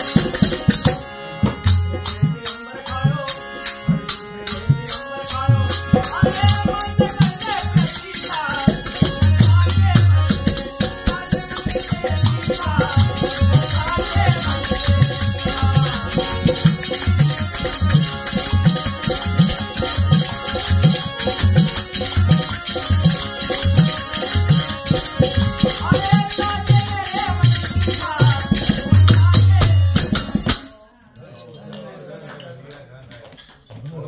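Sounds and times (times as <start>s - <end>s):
harmonium: 0.0s - 31.1s
voices singing: 0.1s - 32.2s.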